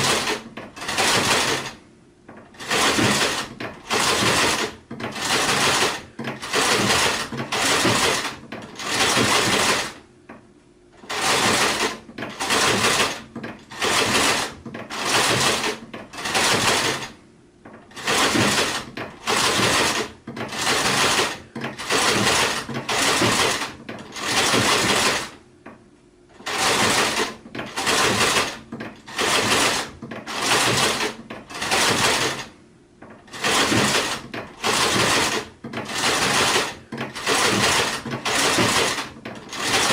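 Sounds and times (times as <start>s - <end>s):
sewing machine stitching: 0.0s - 10.0s, 11.0s - 25.4s, 26.3s - 39.9s.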